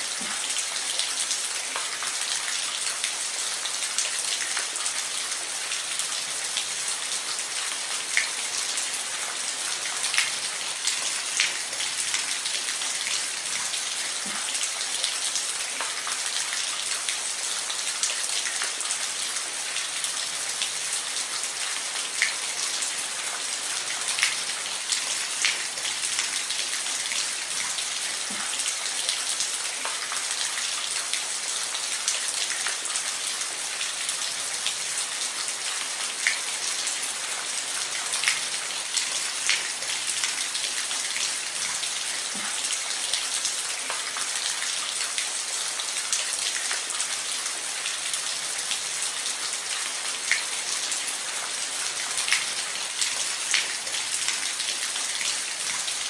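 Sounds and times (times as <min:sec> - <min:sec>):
rain falling on a roof: 0:00.0 - 0:56.0.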